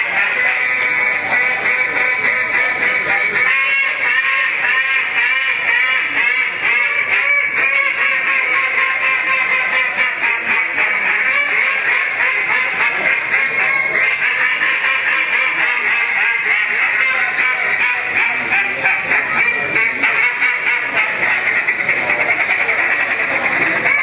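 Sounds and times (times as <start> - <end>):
duck calls quacking: 0.0 - 24.0.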